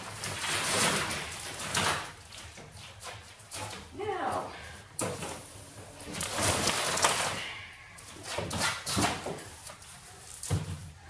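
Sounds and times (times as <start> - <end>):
cardboard scraping and rustling: 0.0 - 3.9, 5.0 - 11.0.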